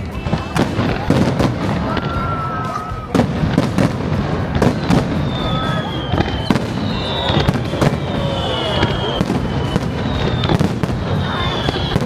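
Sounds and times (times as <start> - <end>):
fireworks booms and cracks: 0.0 - 12.0
fireworks whistling: 0.0 - 12.0.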